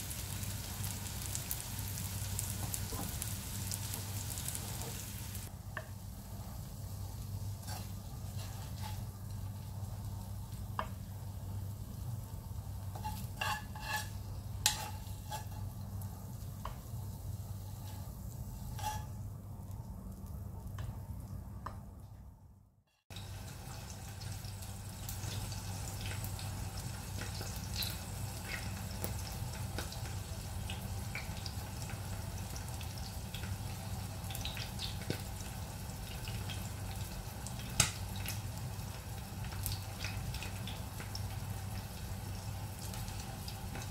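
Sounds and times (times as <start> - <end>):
low room hum: 0.0 - 43.9.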